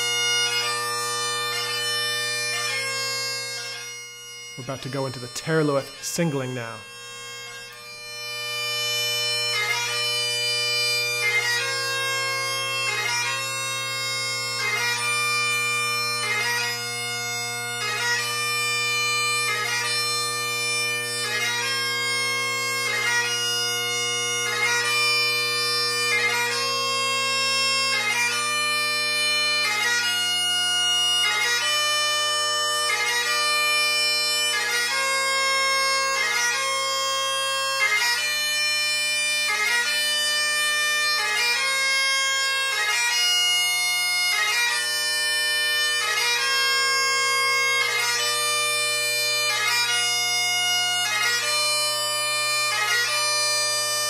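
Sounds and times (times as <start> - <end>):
bagpipe chanter melody: 0.0 - 54.0
bagpipe drones: 0.0 - 54.0.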